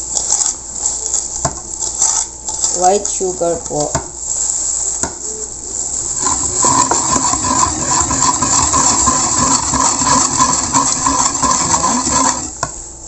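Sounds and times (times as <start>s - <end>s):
whisk beating batter in bowl: 0.0s - 12.8s.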